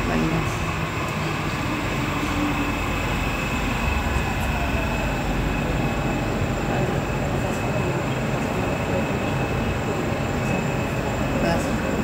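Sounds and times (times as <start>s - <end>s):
high whine: 0.0s - 12.0s
train humming: 0.0s - 12.0s.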